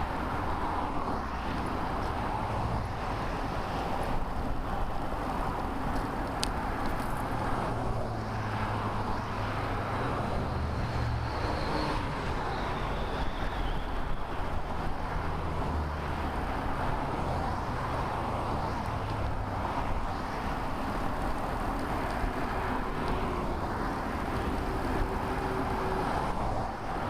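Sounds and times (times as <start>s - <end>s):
vehicle engine hum: 0.0s - 27.0s.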